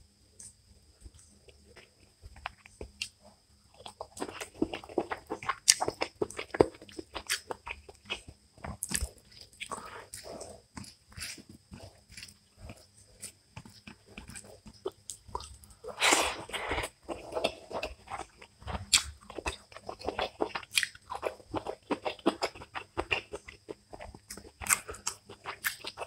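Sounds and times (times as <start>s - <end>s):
chewing: 0.4s - 26.0s.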